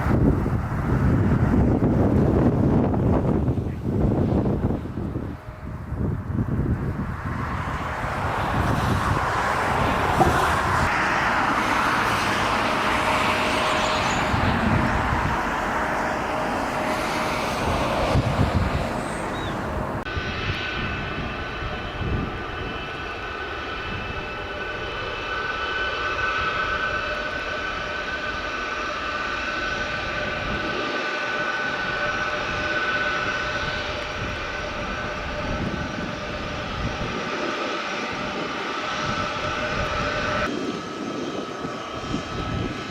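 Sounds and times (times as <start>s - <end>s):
jet engine roar: 0.0s - 42.9s
jet engine whine: 0.0s - 42.9s.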